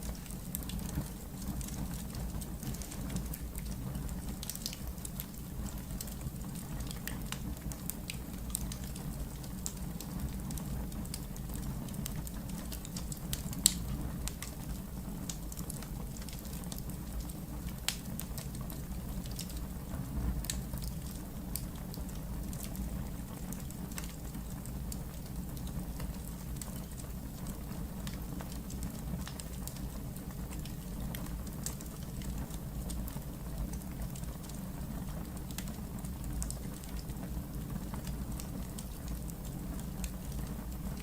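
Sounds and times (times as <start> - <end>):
fire popping: 0.0 - 41.0
wood fire crackling: 0.0 - 41.0.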